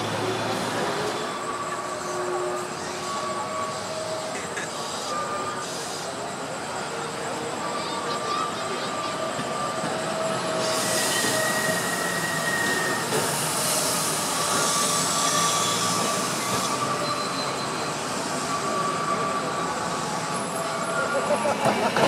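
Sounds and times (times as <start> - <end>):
hiss of wheels on rail: 0.0 - 22.0
streetcar wheels squealing: 0.0 - 22.0.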